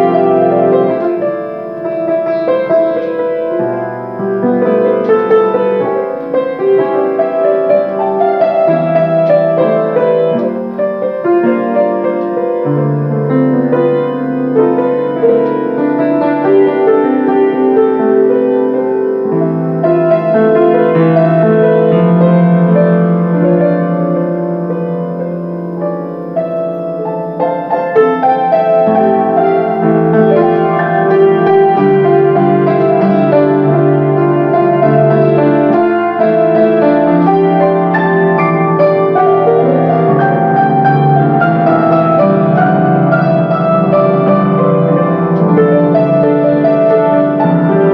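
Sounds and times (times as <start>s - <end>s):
solo piano playing: 0.0s - 47.9s.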